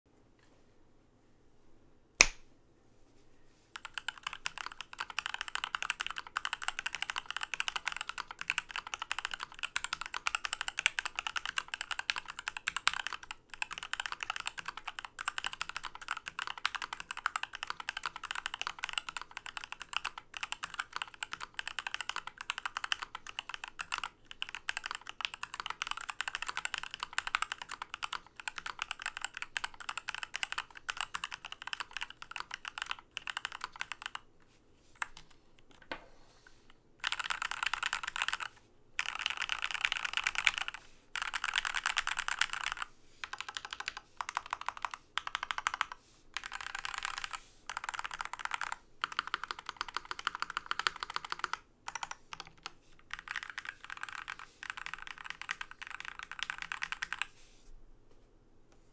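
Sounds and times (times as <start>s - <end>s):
fast mechanical keyboard typing: 3.8s - 34.2s, 37.0s - 57.3s.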